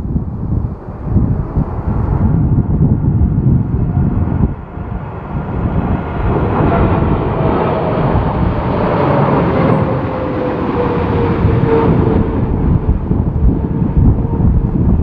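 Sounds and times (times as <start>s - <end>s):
wind buffeting microphone: 0.0s - 15.0s
jet engines whining: 0.1s - 15.0s.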